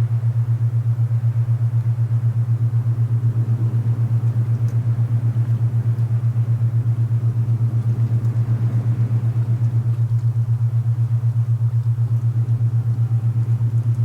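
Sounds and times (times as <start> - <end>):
low pulsing tone: 0.0 - 14.0.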